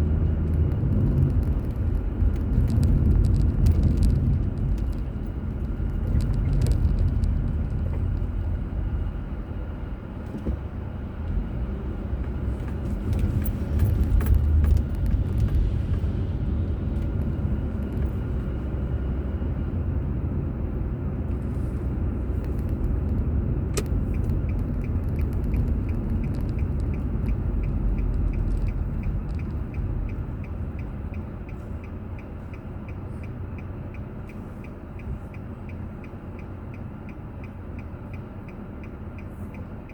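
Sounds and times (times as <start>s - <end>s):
turn signal ticking: 0.0s - 19.7s, 21.2s - 39.9s
car road noise and engine rumble: 0.0s - 39.9s.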